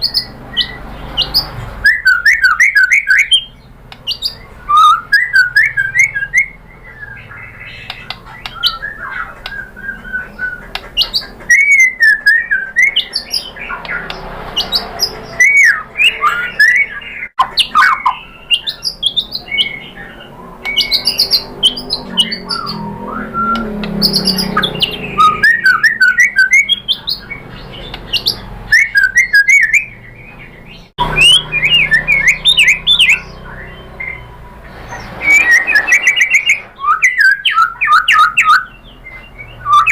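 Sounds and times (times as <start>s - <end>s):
songbird singing whistled phrases: 0.0s - 39.9s.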